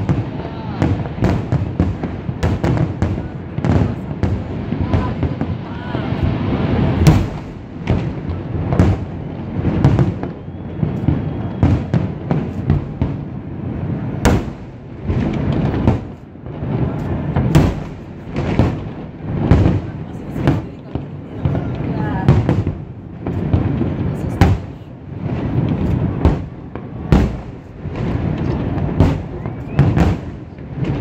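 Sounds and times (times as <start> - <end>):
fireworks bursting bangs: 0.0 - 31.0.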